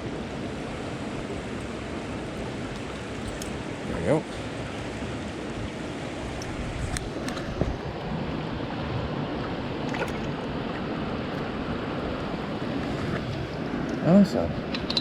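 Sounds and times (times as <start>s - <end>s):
rushing water: 0.0s - 15.0s
wind: 0.0s - 15.0s.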